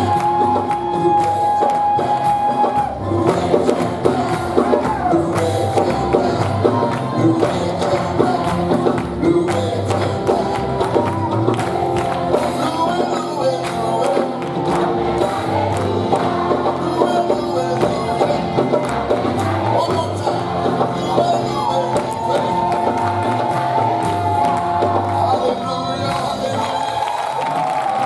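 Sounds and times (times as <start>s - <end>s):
percussion beat: 0.0s - 28.0s
voices singing with band: 0.0s - 28.0s.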